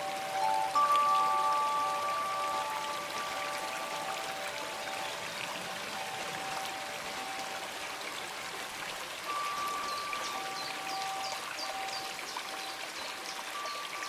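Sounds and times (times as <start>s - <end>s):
soft bell-like tones: 0.0s - 8.0s, 9.3s - 14.0s
water streaming and trickling: 0.0s - 14.0s.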